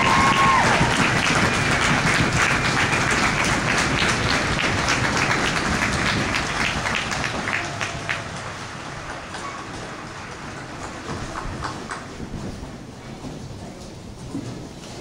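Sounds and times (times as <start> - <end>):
crowd applauding: 0.0 - 12.6.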